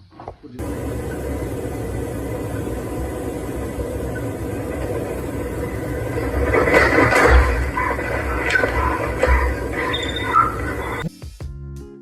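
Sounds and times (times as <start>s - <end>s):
loud noisy burst: 0.6s - 11.1s
vehicle engine rumbling: 0.6s - 11.1s.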